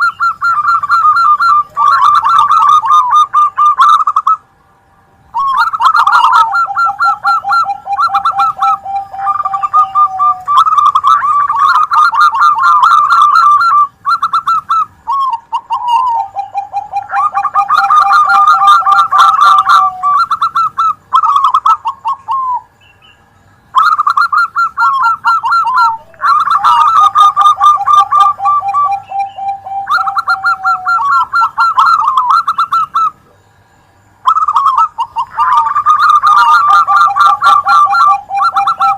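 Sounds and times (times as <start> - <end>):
doves cooing: 0.0 - 4.5, 5.3 - 38.9
low rolling bird trill: 0.0 - 38.9.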